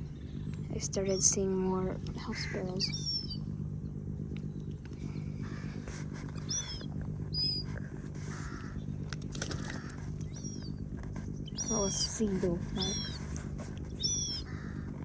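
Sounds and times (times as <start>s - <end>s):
sparrows chirping: 0.0s - 14.9s.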